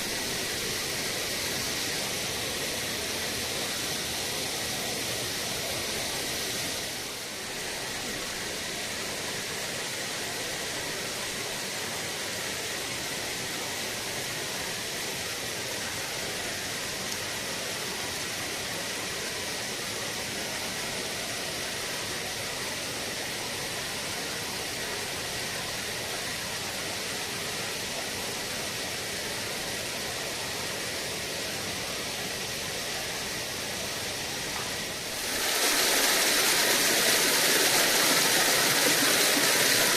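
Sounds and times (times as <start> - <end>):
waterfall rushing roar: 0.0 - 39.9.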